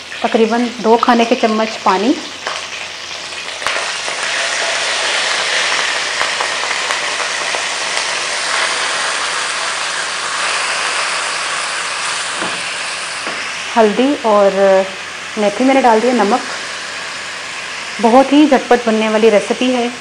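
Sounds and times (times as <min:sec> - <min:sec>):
oil sizzling in a wok: 0:00.0 - 0:20.0.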